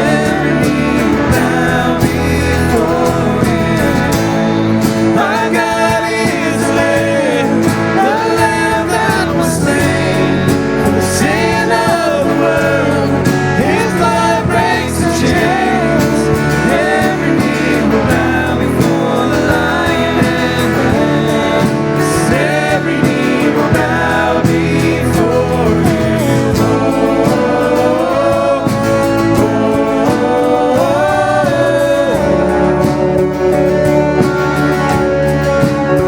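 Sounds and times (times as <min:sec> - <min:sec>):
band with guitar playing: 0:00.0 - 0:36.0
person singing: 0:00.0 - 0:36.0.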